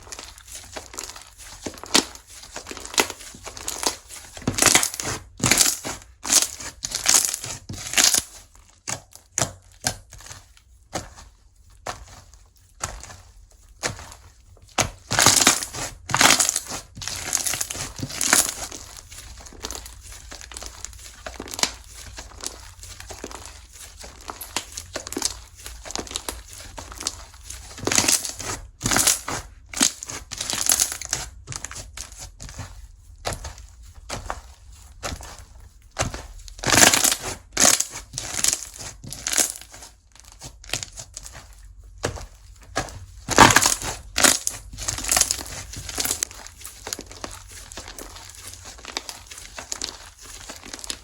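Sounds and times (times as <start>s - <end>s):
slime squeezed crackling: 0.0s - 10.4s, 13.8s - 34.4s, 36.0s - 42.1s, 42.8s - 51.0s.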